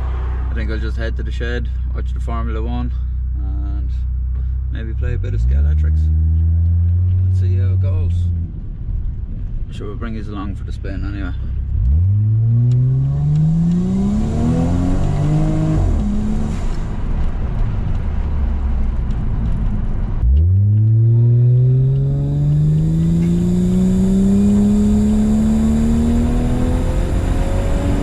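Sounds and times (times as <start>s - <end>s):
car engine accelerating: 0.0s - 2.3s, 3.9s - 9.8s, 10.7s - 28.0s.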